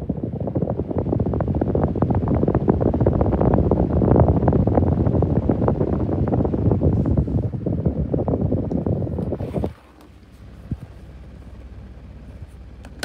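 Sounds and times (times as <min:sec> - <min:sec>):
desk fan clicking rattle: 0:00.0 - 0:13.0
fan airflow buffeting microphone: 0:00.0 - 0:13.0.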